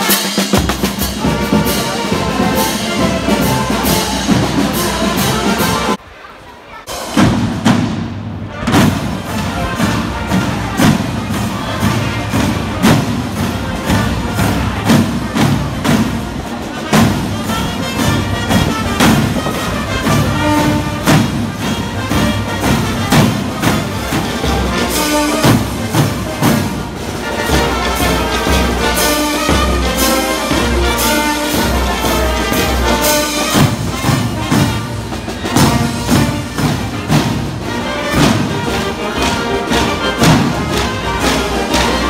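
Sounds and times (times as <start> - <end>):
brass playing: 0.0 - 6.0, 8.2 - 42.0
drums beating march rhythm: 0.0 - 6.0, 6.8 - 42.0.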